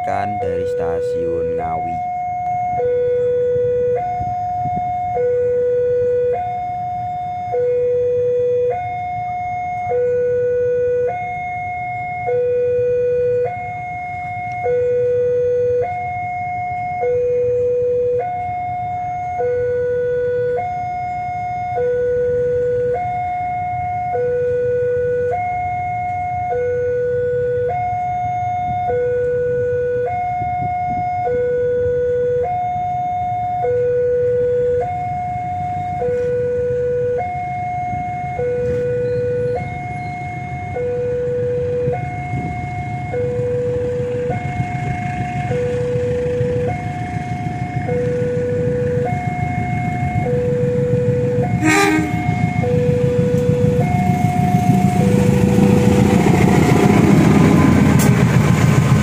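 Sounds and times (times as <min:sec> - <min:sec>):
level crossing two-tone alarm: 0:00.0 - 0:58.5.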